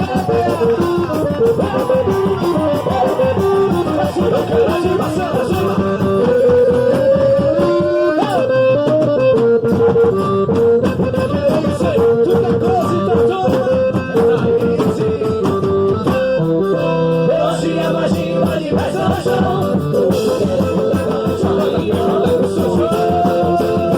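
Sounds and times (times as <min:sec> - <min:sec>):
folk dance music with guitar: 0:00.0 - 0:23.9.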